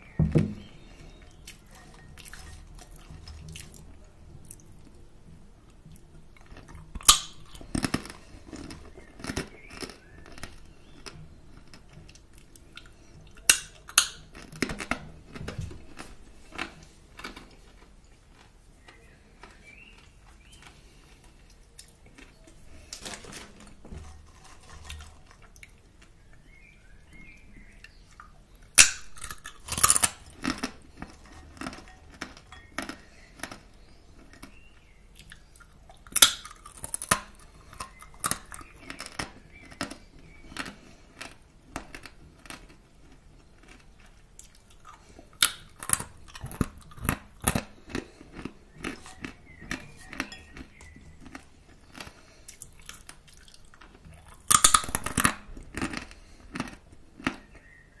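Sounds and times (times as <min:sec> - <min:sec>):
crunchy chewing of crackers: 0:00.0 - 0:05.1, 0:05.7 - 0:58.0.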